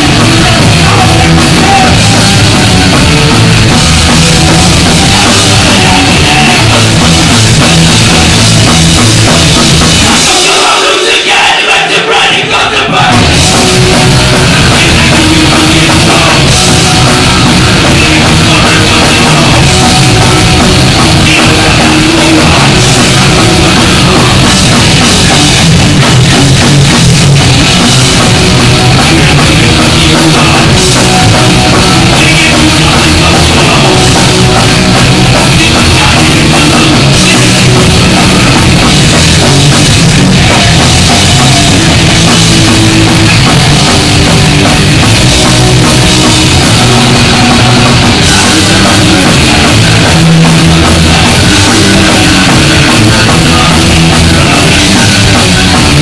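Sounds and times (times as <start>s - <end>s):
punk band playing loud: 0.0s - 56.0s.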